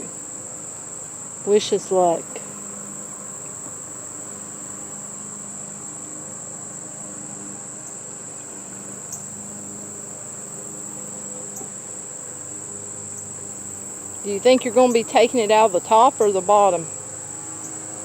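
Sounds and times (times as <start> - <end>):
honeybees buzzing: 0.0 - 18.0
thin high-pitched whine: 0.0 - 18.0.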